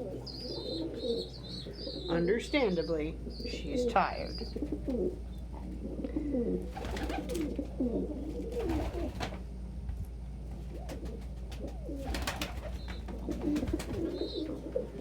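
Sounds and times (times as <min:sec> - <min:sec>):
pigeons cooing: 0:00.0 - 0:09.6, 0:10.5 - 0:15.0.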